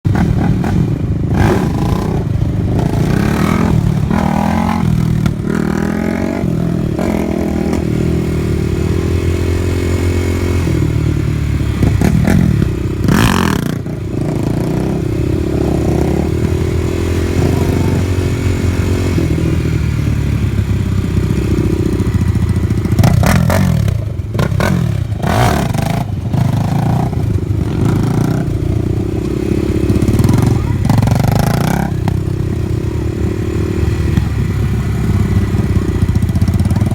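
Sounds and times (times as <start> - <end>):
engine revving: 0.1 - 36.9.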